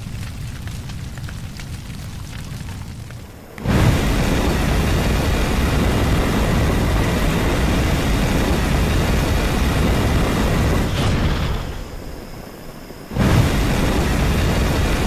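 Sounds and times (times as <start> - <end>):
flamethrower rush of flame: 0.0 - 15.0.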